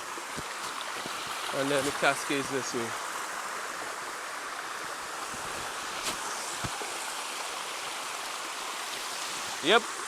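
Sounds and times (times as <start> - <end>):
stream cascading over rocks: 0.0 - 10.0.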